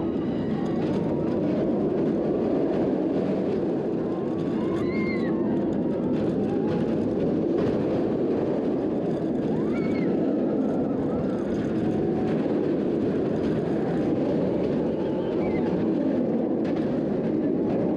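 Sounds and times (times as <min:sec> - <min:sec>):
roller coaster wheels on track: 0:00.0 - 0:17.9.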